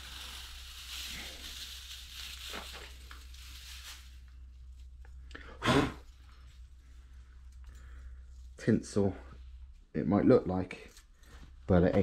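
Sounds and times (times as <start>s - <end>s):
metal swarf crinkling: 0.0s - 12.0s.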